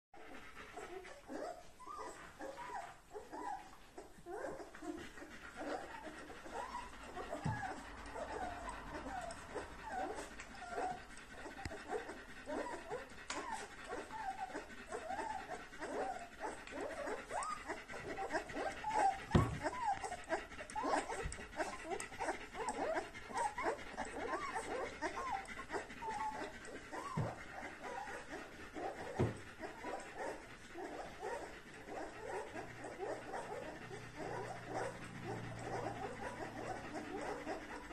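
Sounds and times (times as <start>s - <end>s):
dog panting: 0.2s - 37.9s
puppies whimpering and squeaking: 0.2s - 37.9s.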